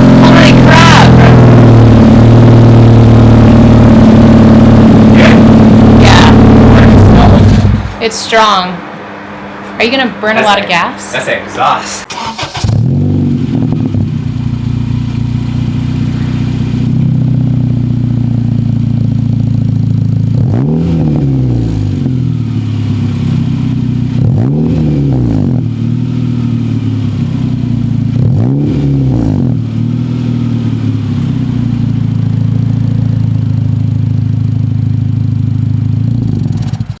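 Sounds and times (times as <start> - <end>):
car engine idling and revving: 0.0 - 8.5, 12.0 - 37.0.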